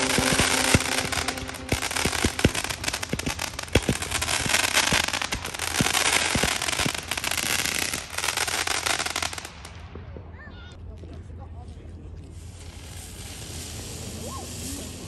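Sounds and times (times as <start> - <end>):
fireworks banging and crackling: 0.0 - 10.4, 12.3 - 15.0.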